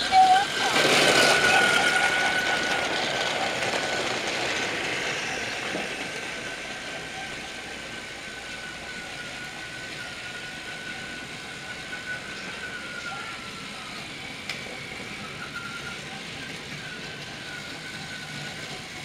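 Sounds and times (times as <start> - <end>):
toy train motor whine: 0.0 - 19.0
toy train wagons clattering: 0.0 - 19.0.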